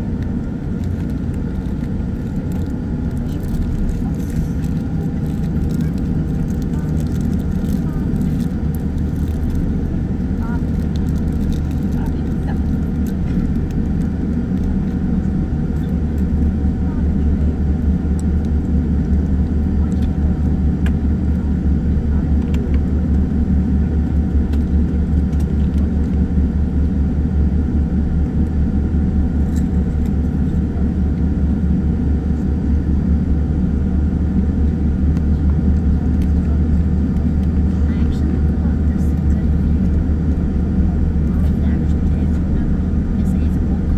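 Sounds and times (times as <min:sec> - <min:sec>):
air-conditioning hum: 0:00.0 - 0:43.9
aircraft engines humming: 0:00.0 - 0:43.9.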